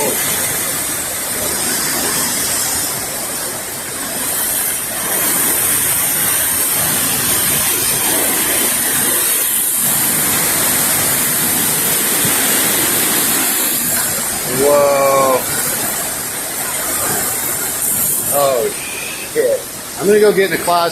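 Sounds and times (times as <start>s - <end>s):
hurricane wind and rain: 0.0s - 20.9s.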